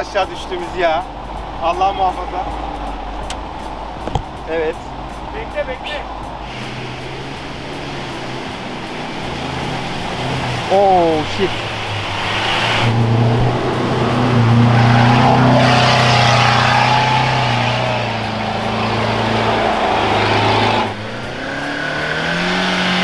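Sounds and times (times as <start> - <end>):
water splashing: 0.0 - 23.0
off-road engine revving hard: 4.4 - 23.0.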